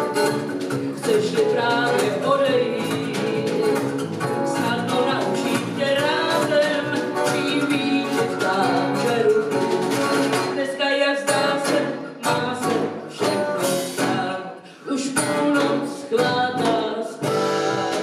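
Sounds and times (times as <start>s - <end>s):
electric bass guitar: 0.0s - 10.6s, 11.3s - 14.5s, 15.2s - 18.0s
drums: 0.0s - 18.0s
woman singing: 0.0s - 18.0s.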